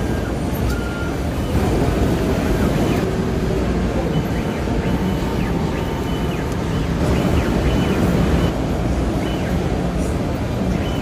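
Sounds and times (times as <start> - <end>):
machinery running: 0.0 - 11.0.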